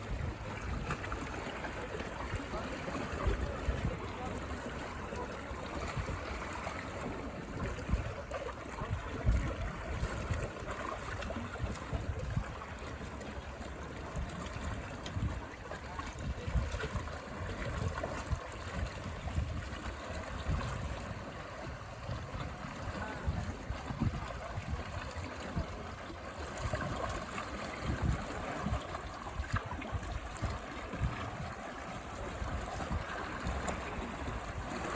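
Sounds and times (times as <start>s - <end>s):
sea waves lapping on sand: 0.0s - 34.9s.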